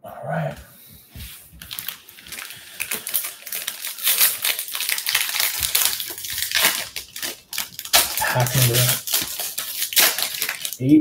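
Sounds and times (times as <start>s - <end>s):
foil wrapper crinkling and tearing: 1.6s - 11.0s.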